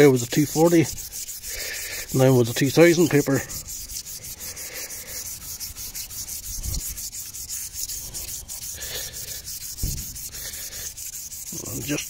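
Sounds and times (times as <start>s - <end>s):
sandpaper rubbing on metal rim: 0.0s - 12.0s.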